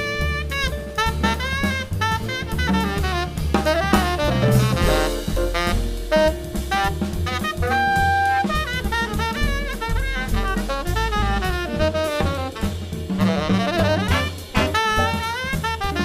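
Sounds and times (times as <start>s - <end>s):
jazz band playing: 0.0s - 16.0s
saxophone: 0.0s - 16.0s.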